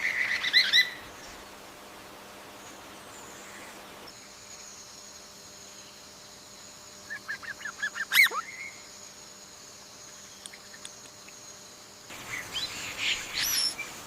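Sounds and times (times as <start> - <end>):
high insect-like buzz: 0.0 - 14.0.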